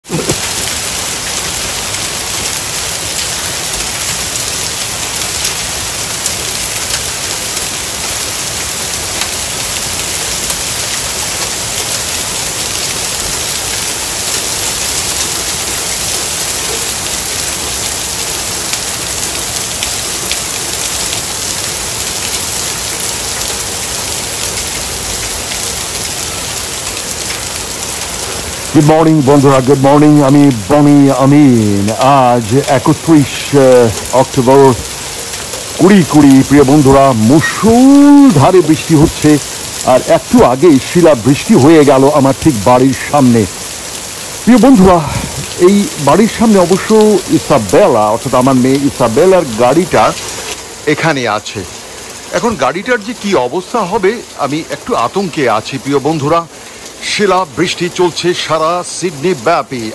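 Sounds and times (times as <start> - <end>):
rain and hail on concrete: 0.0 - 59.9.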